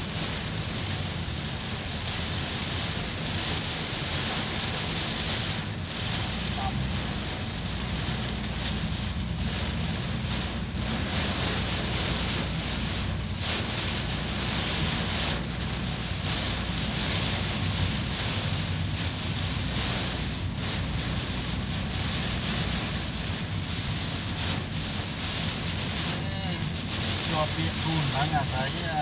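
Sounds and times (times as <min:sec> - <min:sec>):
car rumbling on wet road: 0:00.0 - 0:29.0
heavy rain on car roof: 0:00.0 - 0:29.0.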